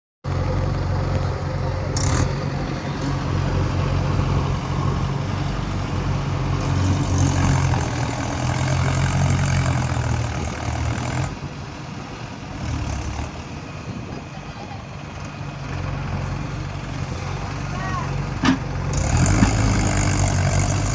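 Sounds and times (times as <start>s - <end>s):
tractor diesel engine running: 0.2s - 20.9s.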